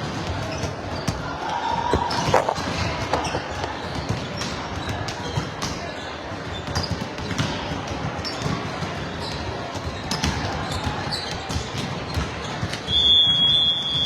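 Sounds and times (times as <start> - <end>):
volleyballs hit and bouncing: 0.0 - 13.1.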